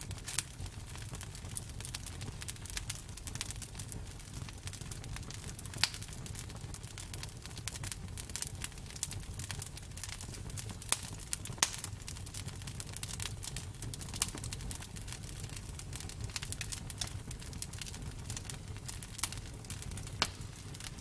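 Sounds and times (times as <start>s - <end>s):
campfire crackling and popping: 0.0s - 21.0s
low rumble of flames: 0.0s - 21.0s.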